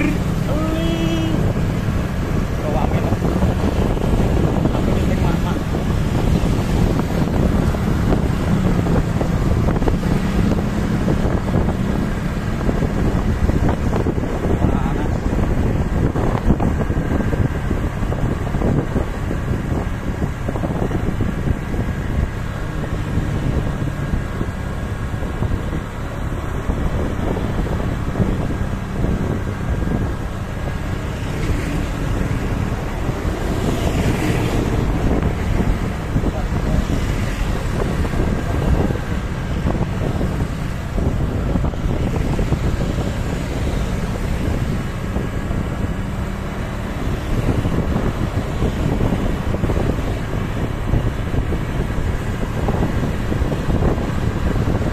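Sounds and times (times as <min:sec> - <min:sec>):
vehicle engine rumble: 0:00.0 - 0:54.9
wind buffeting microphone: 0:00.0 - 0:54.9.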